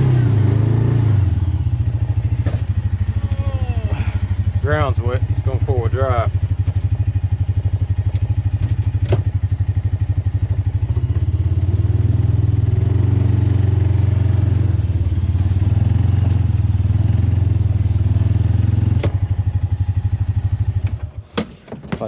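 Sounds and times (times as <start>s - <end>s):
small vehicle engine under load: 0.0s - 21.4s.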